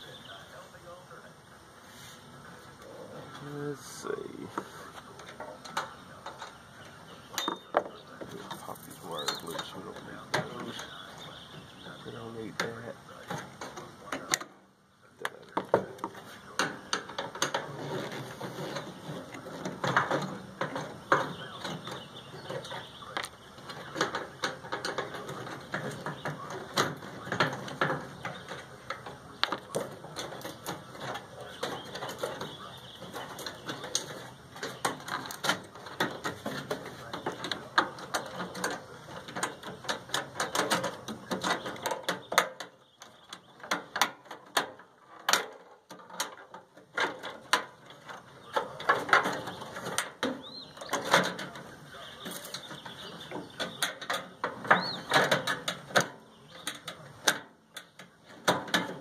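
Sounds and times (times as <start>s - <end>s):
clicks rattles and scrapes of metal parts: 2.1s - 59.0s.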